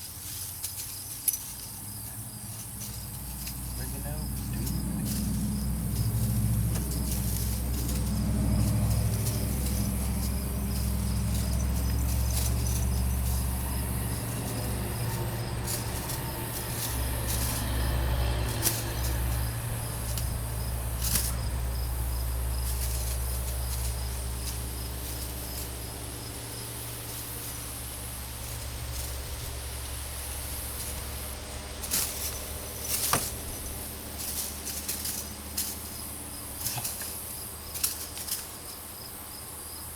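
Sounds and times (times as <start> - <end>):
insects chirping: 0.0 - 39.9
low motor hum: 0.0 - 39.9.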